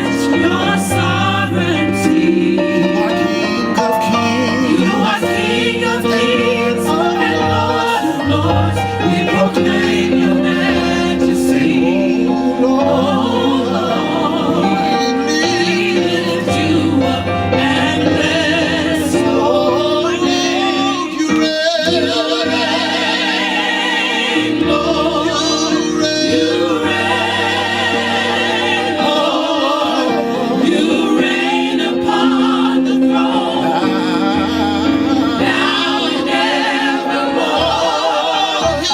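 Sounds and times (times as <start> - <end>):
bass accompaniment: 0.0 - 38.9
gospel choir singing: 0.0 - 38.9.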